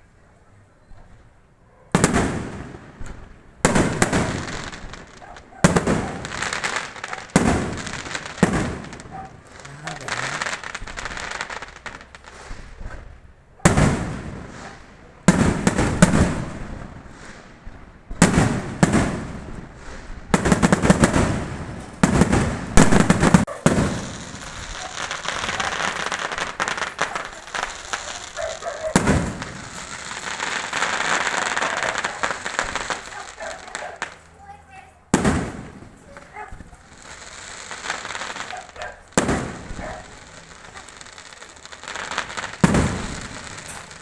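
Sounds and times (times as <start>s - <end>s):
fireworks banging: 1.0s - 44.0s
fireworks crackling and hissing: 1.0s - 44.0s.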